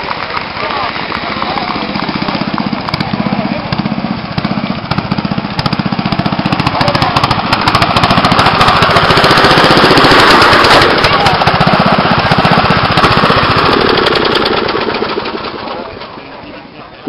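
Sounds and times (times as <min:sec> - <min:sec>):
lawn tractor engine popping: 0:00.0 - 0:16.4.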